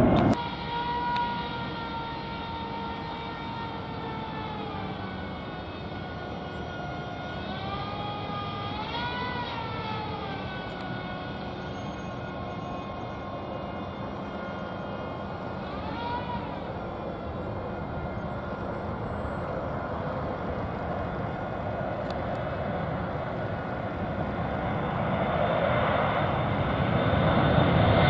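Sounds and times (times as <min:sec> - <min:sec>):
jet airliner engines whining: 0:00.0 - 0:28.0.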